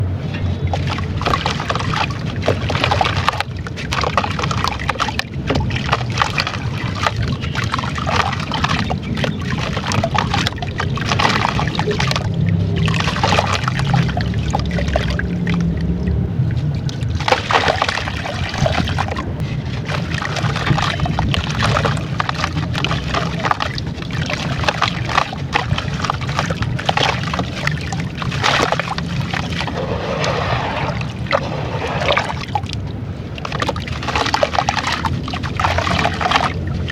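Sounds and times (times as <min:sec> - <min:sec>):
water sloshing and gurgling: 0:00.0 - 0:36.9.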